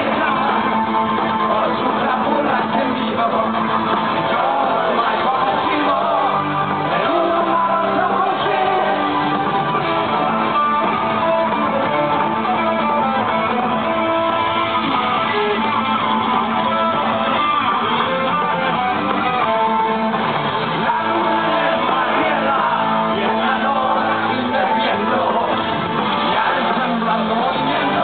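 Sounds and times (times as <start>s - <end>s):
electric guitar melody: 0.0s - 28.0s
heavy metal band playing: 0.0s - 28.0s.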